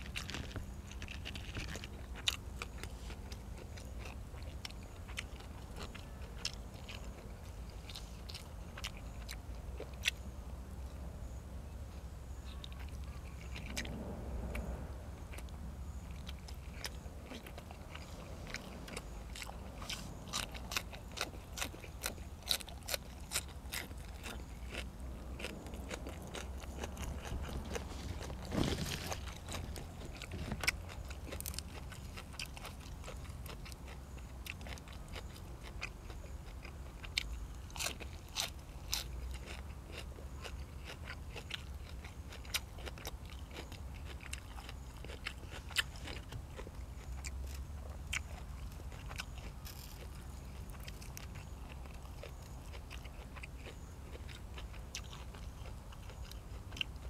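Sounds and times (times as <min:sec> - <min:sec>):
person chewing and crunching food: 0:00.0 - 0:10.4, 0:12.4 - 0:57.0
steady low hum: 0:00.0 - 0:57.0.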